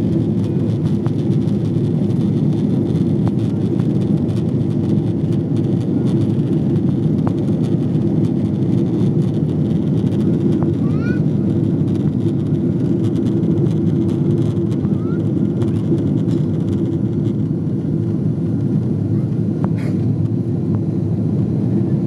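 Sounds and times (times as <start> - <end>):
jet engines and rushing air: 0.0 - 22.0.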